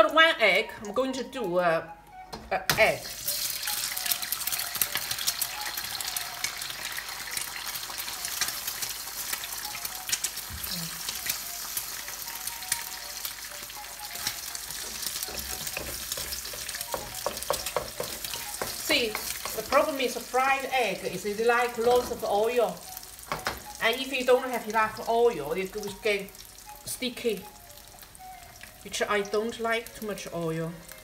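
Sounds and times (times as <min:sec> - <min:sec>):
egg sizzling in hot oil: 0:03.0 - 0:31.0.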